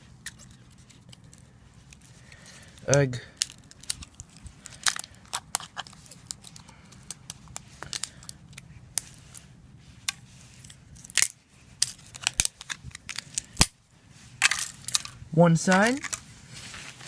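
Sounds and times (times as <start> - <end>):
plastic parts clicking and cracking: 0.2 - 9.4, 10.1 - 13.8, 14.4 - 16.2.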